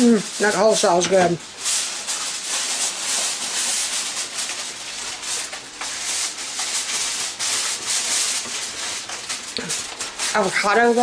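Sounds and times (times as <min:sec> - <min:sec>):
scratching against microphone: 0:00.2 - 0:11.0.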